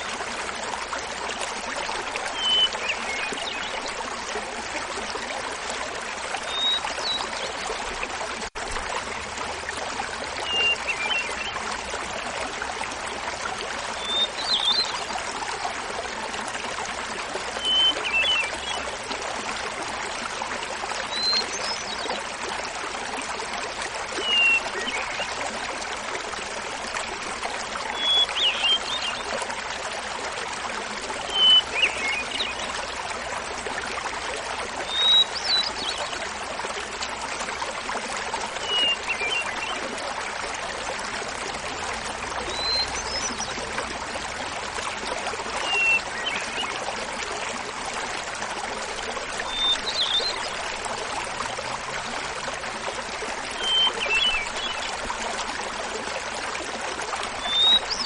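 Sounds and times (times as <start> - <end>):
small waterfall babbling: 0.0 - 58.0.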